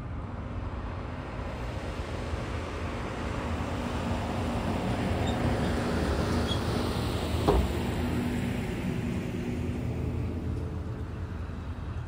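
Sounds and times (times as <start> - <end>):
truck engine and tyres: 0.0 - 12.0.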